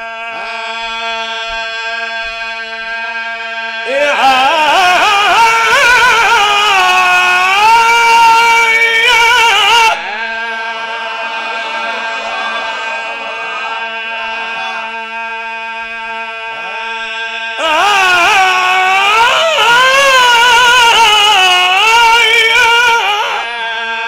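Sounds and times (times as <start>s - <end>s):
man singing into microphone: 0.0s - 24.0s.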